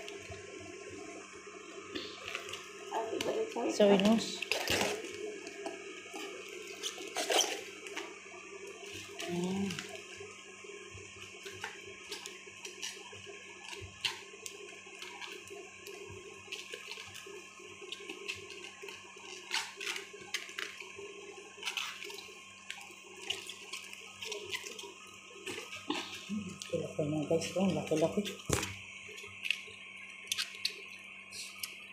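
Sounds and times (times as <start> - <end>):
cabbage leaves crackling: 2.0 - 10.2, 11.2 - 31.6.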